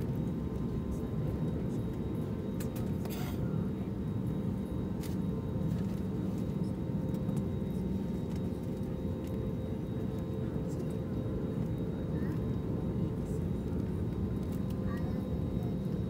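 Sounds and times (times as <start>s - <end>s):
aircraft engine rumble: 0.0s - 16.0s
faint steady whine: 0.0s - 16.0s.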